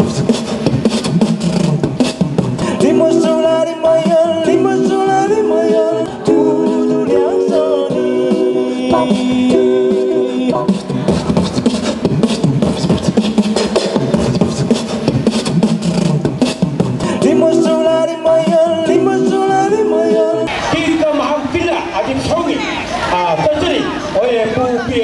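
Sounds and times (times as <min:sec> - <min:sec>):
beatboxed rhythm: 0:00.0 - 0:20.8
voices singing held chords: 0:00.0 - 0:20.8.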